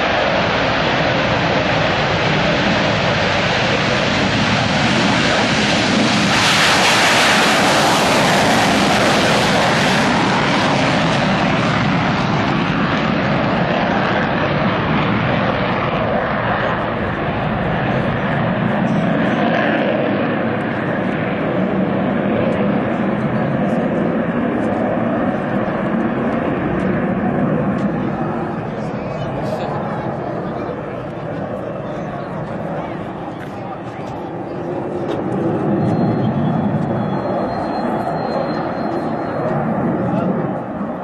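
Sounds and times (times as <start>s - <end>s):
jet engines on low flyby: 0.0s - 41.0s.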